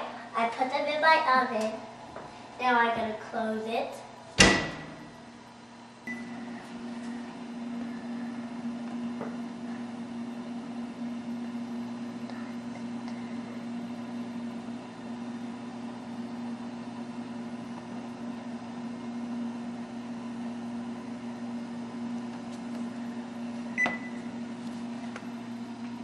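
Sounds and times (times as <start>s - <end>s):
oven electrical hum: 0.0s - 26.0s.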